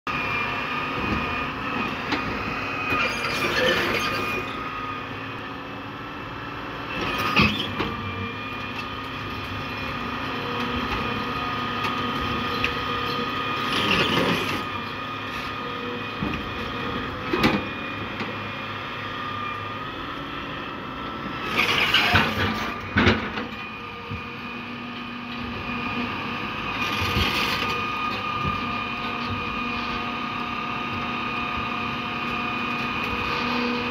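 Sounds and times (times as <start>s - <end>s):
excavator diesel engine: 0.1s - 33.9s
hydraulic whine: 0.1s - 33.9s.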